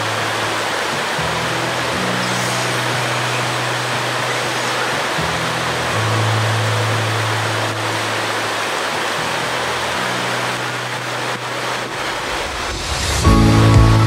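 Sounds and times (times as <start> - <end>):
background music held notes: 0.0 - 14.0
river rushing over rocks: 0.0 - 14.0.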